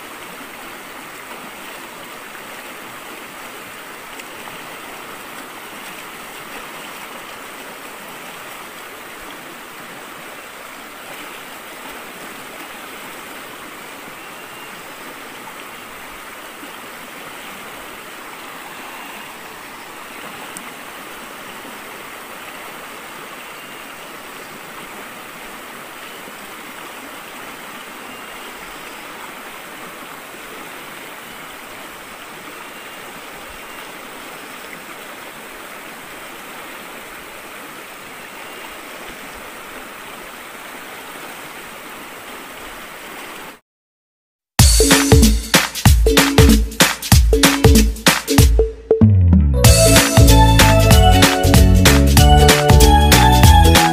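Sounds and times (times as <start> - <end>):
flooded river rushing: 0.0 - 43.6, 49.4 - 53.9.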